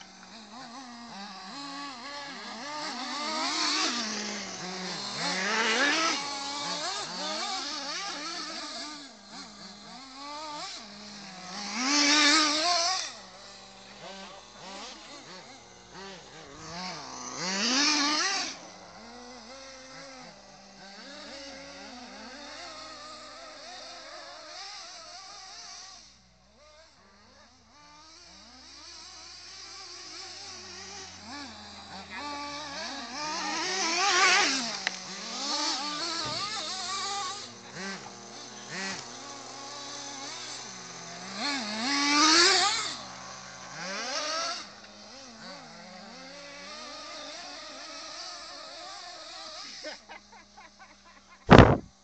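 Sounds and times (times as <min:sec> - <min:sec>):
remote-controlled car engines revving: 0:00.0 - 0:52.0.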